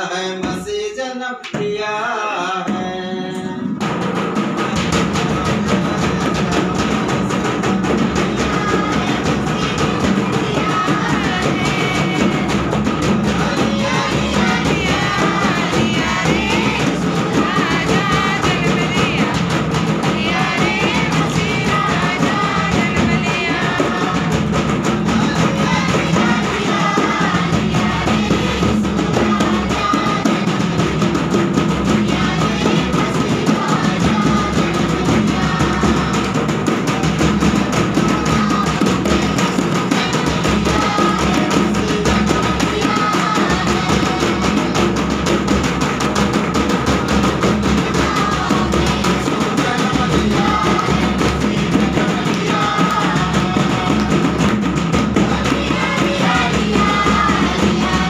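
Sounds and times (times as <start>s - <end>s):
group singing a carol: 0.0s - 58.0s
bass drum beaten with stick: 2.6s - 58.0s
hand drum: 2.6s - 58.0s.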